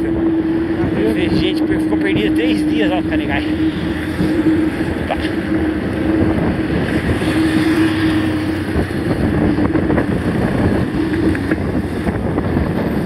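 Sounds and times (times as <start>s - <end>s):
bike tyres humming on road: 0.0s - 13.0s
rush of riding noise: 0.0s - 13.0s.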